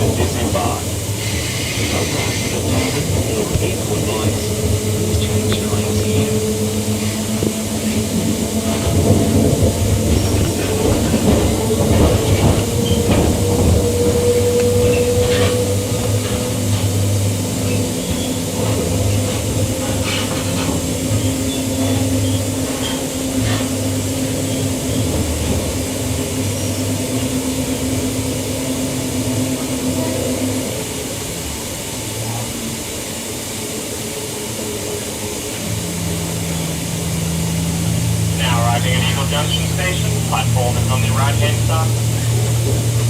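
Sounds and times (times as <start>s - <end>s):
electric train rumbling on track: 0.0s - 43.0s.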